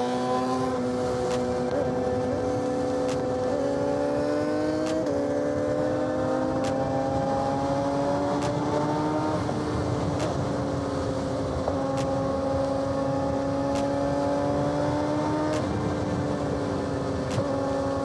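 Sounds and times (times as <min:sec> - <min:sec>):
motorcycle engine cruising: 0:00.0 - 0:18.0
wind on microphone: 0:00.0 - 0:18.0.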